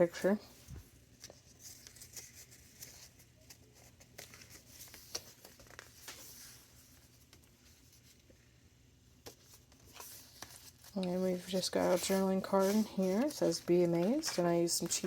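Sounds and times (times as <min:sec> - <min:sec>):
paper pages rustling: 0:00.0 - 0:08.4, 0:09.2 - 0:15.0.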